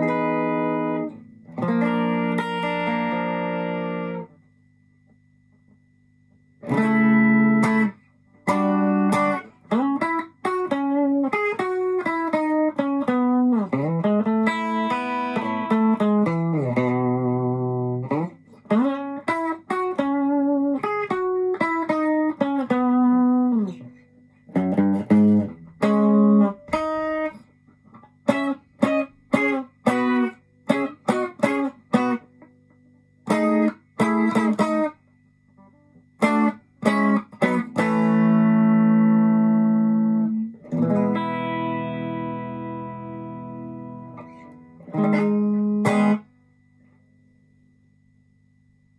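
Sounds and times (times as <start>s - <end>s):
clean electric guitar: 0.0s - 4.4s, 5.0s - 46.4s.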